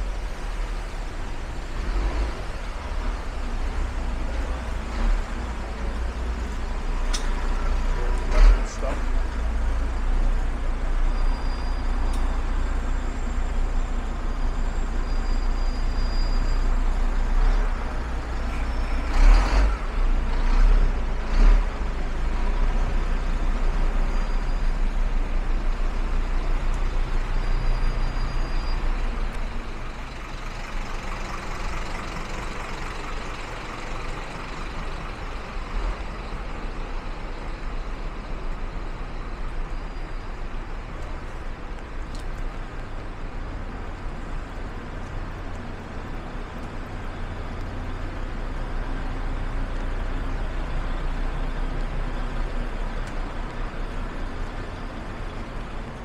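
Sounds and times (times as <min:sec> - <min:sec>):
low engine rumble of traffic: 0:00.0 - 0:56.0
tyres hissing on wet road: 0:00.0 - 0:56.0.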